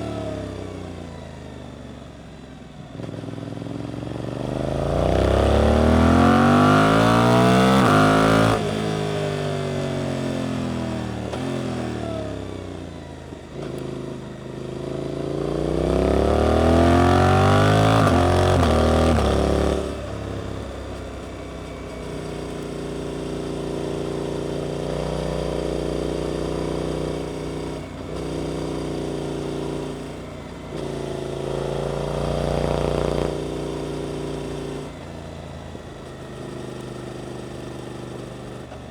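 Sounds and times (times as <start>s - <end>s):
motorcycle engine revving: 2.9s - 38.9s.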